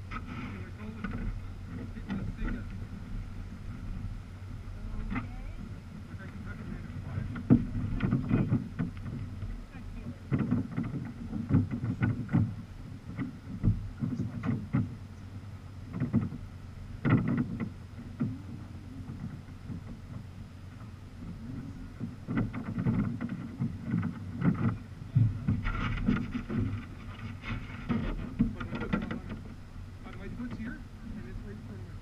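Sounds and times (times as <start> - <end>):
paddle strokes splashing: 0.0 - 32.0
water sloshing against kayak: 0.0 - 32.0.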